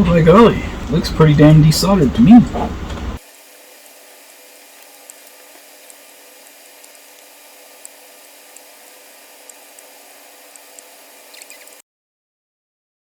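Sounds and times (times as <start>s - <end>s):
desoldering tool hissing: 0.0s - 11.8s.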